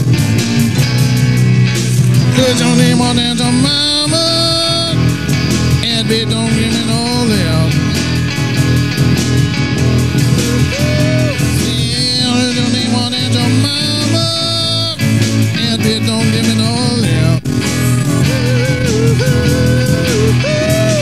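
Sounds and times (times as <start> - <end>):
bass and drum beat: 0.0 - 21.0
lead guitar bending notes: 0.0 - 21.0.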